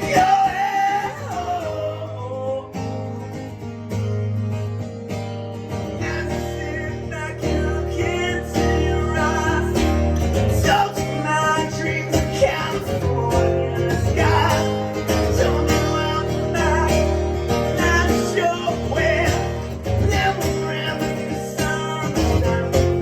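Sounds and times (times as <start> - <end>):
man singing: 0.0 - 3.2, 5.9 - 23.0
acoustic guitar strumming: 0.0 - 23.0.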